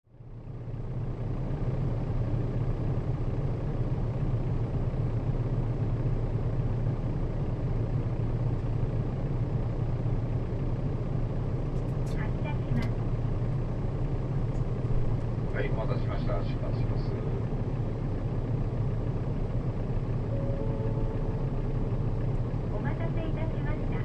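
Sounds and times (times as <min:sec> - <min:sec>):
bus diesel engine idling: 0:00.1 - 0:24.0.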